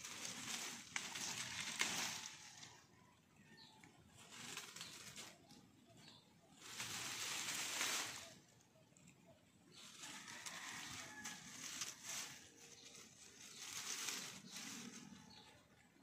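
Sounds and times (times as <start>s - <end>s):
leaves and vines rustling: 0.0s - 16.0s.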